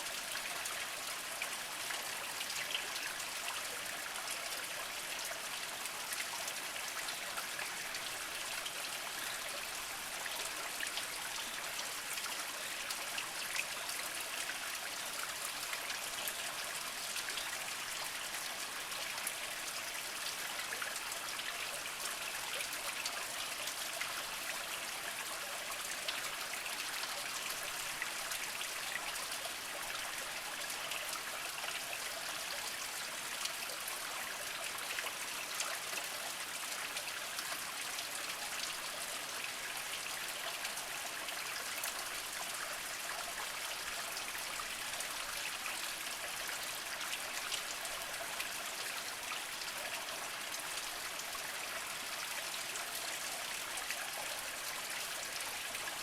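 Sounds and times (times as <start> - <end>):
stream trickling over rocks: 0.0 - 56.0.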